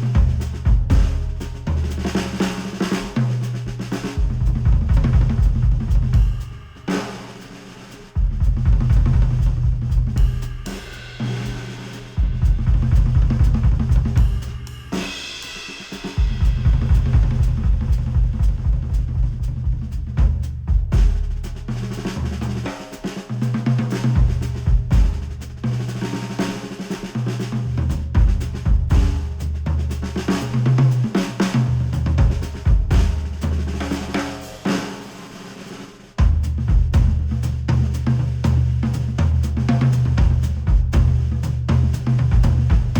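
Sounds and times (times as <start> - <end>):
drum-led instrumental music: 0.0 - 42.9.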